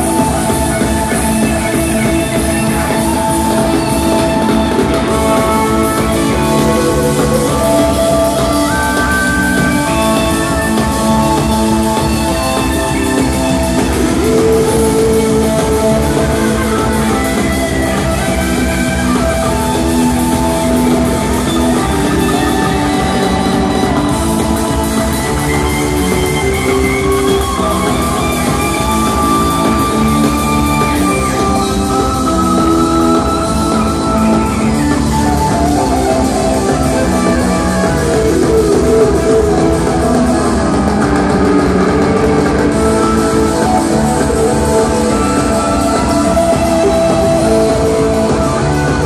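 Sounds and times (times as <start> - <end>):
drum kit steady beat: 0.0 - 49.0
electric guitar sustained notes: 0.0 - 49.0
keyboards sustained notes: 0.0 - 49.0.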